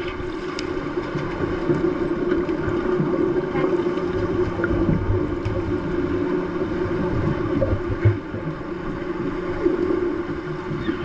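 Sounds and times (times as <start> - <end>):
underwater rumble and hum: 0.0 - 11.0.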